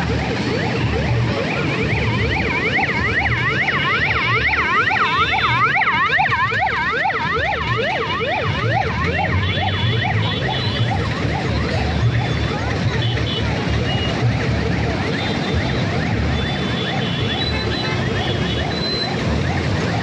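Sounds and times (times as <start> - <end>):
emergency sirens yelping: 0.0 - 20.0
low rumble of engines: 0.0 - 20.0.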